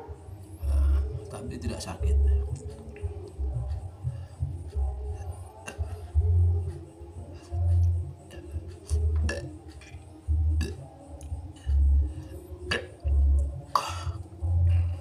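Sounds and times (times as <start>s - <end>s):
slow deep bass beat: 0.3s - 15.0s.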